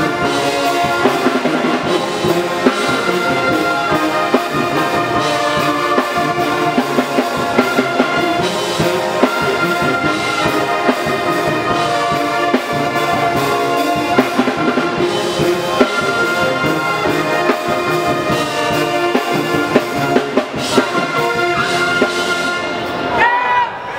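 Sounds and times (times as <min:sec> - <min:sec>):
drum strokes: 0:00.0 - 0:23.2
brass band playing: 0:00.0 - 0:23.9.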